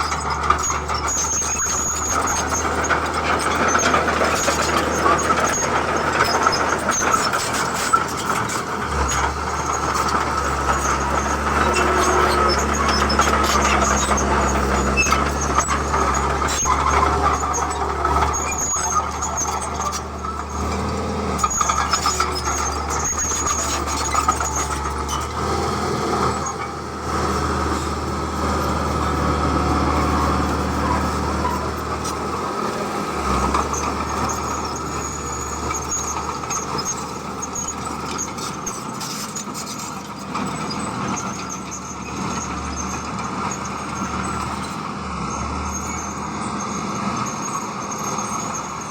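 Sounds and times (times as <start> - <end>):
diesel construction machinery running: 0.0 - 48.9
high metallic squeals: 0.0 - 48.9.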